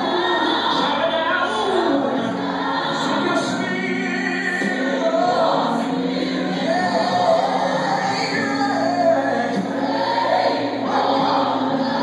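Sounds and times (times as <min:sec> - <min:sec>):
congregation and band gospel music: 0:00.0 - 0:12.0.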